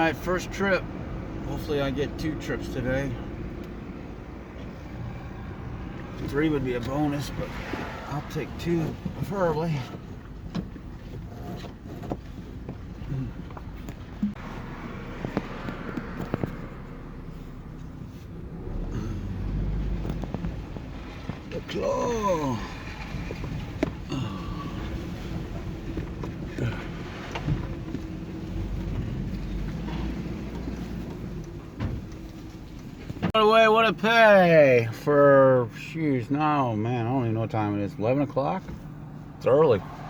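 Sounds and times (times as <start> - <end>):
engine and road noise: 0.0 - 40.0.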